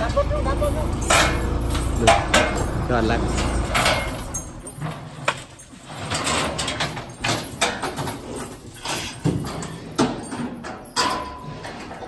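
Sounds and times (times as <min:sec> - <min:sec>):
metal clanks and knocks: 0:00.7 - 0:12.0.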